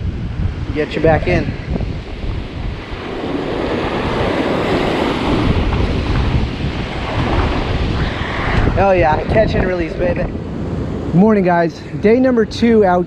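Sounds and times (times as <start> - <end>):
ocean surf washing over rocks: 0.0 - 13.0
wind buffeting the microphone: 0.0 - 13.0.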